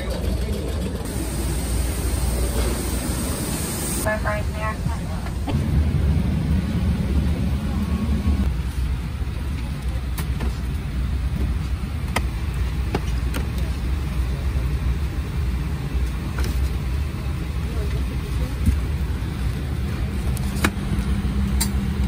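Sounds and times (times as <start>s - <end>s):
aircraft cabin rumble: 0.0s - 22.0s.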